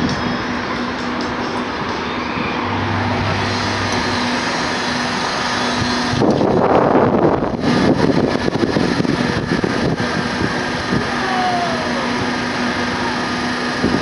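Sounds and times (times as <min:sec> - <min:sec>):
carousel mechanical hum: 0:00.0 - 0:14.0
rush of air noise: 0:00.0 - 0:14.0.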